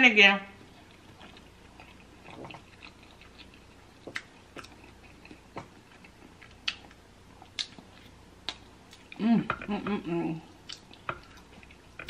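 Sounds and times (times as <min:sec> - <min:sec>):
person chewing: 0:00.6 - 0:12.0.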